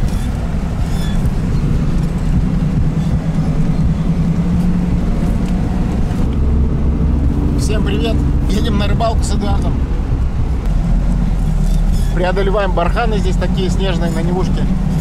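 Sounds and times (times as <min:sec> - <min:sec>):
tyre and body rumble: 0:00.0 - 0:12.7
car engine droning: 0:00.0 - 0:15.0.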